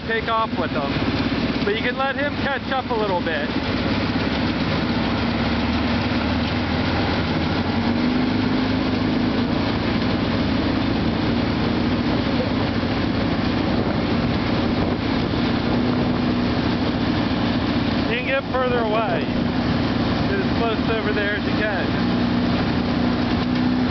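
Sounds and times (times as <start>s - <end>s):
tractor engine under load: 0.0s - 23.9s.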